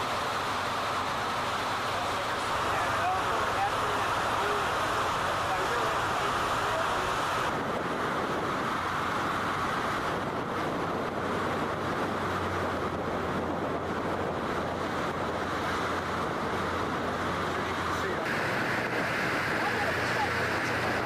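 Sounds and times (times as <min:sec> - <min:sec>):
river water rushing: 0:00.0 - 0:21.0
wind noise on microphone: 0:00.0 - 0:21.0.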